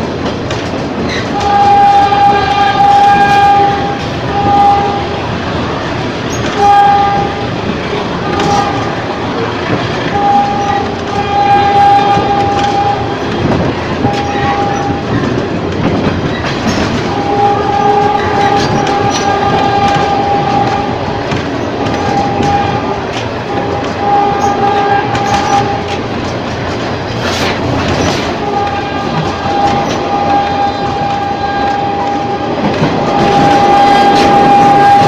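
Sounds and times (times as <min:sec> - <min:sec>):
train rail-joint clatter: 0:00.0 - 0:35.0
train horn blasts: 0:01.1 - 0:05.5, 0:06.3 - 0:26.2, 0:27.1 - 0:35.0.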